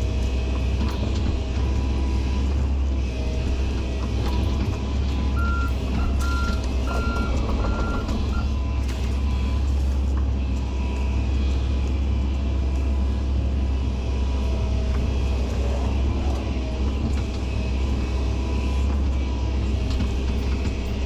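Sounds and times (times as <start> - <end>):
diesel machinery rumbling: 0.0 - 21.0.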